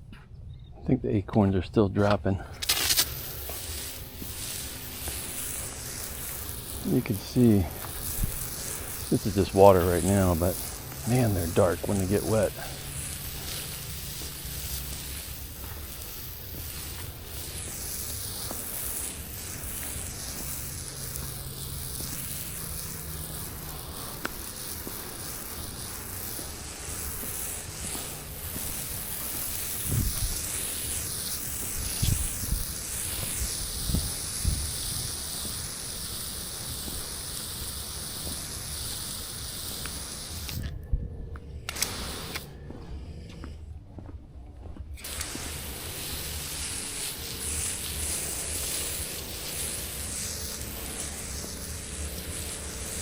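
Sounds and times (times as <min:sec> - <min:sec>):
hose spraying water on concrete: 0:02.0 - 0:40.7, 0:41.7 - 0:42.6, 0:45.0 - 0:53.0.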